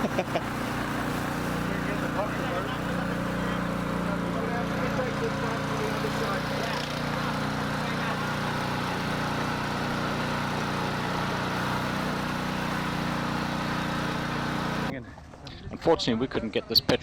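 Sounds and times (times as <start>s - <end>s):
small petrol engine running: 0.0s - 14.9s.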